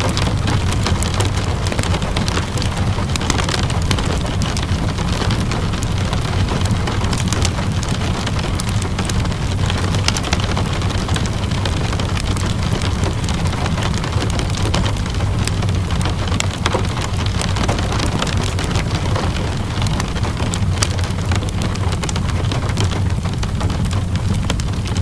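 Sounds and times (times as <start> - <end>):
steady rain hiss: 0.0 - 25.0
wood fire crackling: 0.0 - 25.0.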